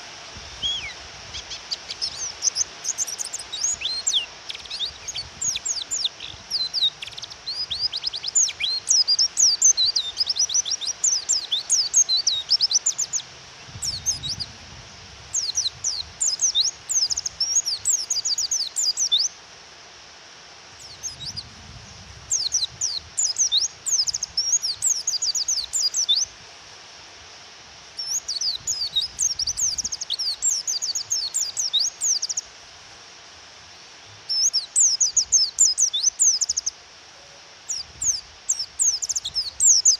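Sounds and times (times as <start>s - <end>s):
rain hiss: 0.0s - 39.9s
bird twittering chirps: 0.6s - 14.6s, 15.3s - 19.4s, 20.8s - 26.3s, 28.0s - 32.5s, 34.3s - 36.8s, 37.7s - 39.9s.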